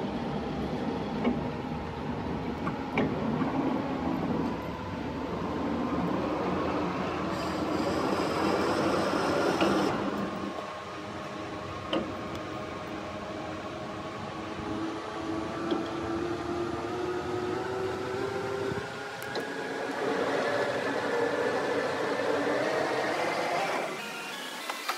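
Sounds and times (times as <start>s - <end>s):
metal lathe humming with gear whine: 0.0s - 24.9s.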